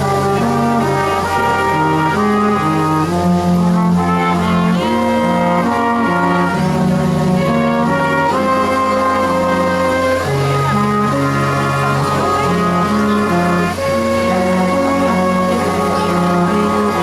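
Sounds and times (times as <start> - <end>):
brass instruments playing melody: 0.0 - 17.0.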